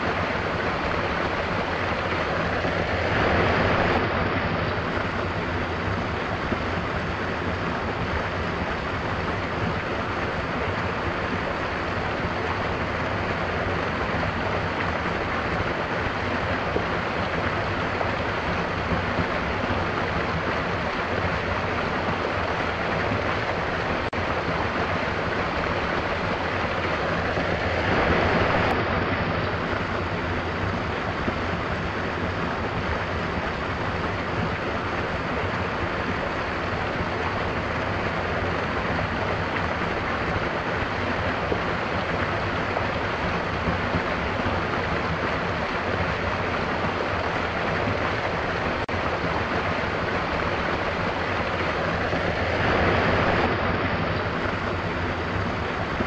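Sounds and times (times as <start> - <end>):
small waterfall splashing into pool: 0.0 - 56.0.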